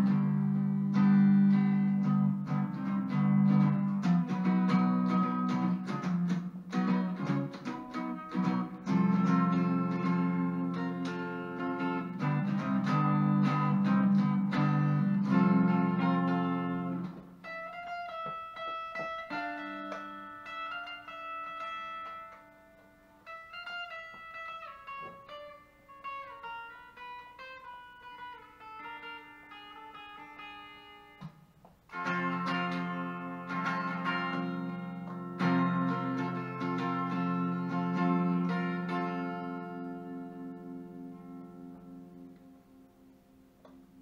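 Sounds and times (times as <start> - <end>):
electric guitar playing: 0.0 - 44.0.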